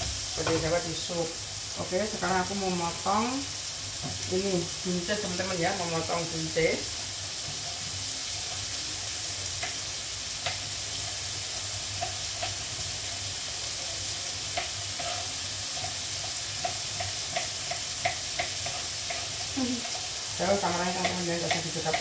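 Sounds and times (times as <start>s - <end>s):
oil sizzling in a frying pan: 0.0s - 22.0s.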